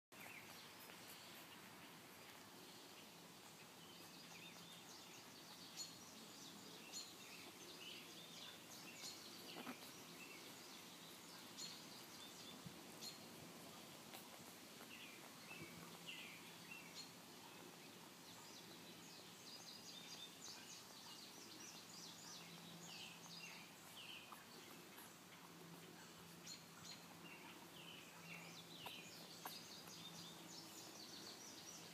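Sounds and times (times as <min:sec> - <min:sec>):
faint low hum: 0:00.2 - 0:31.9.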